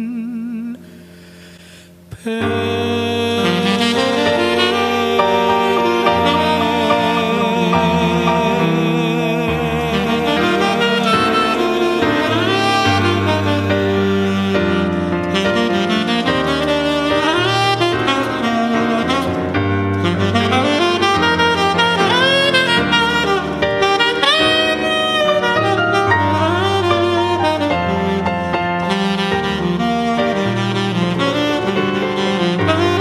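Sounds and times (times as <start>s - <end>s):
tenor saxophone jazz melody: 0.3s - 33.0s
electric keyboard chords: 0.8s - 33.0s
low bass notes: 2.0s - 33.0s.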